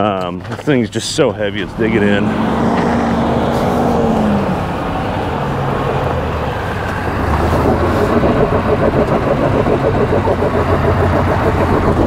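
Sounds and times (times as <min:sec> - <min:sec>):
diesel truck engine under load: 0:00.0 - 0:12.0.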